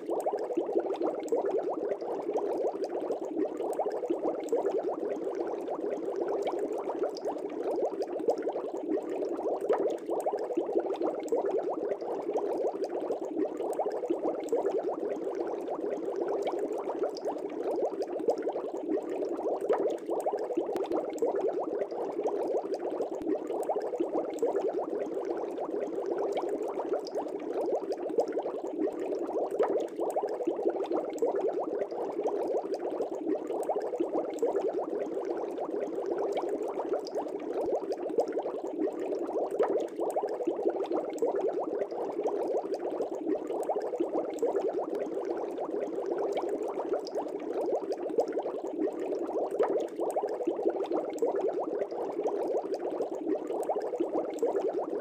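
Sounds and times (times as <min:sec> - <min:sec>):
aquarium air bubbling: 0:00.0 - 0:55.0.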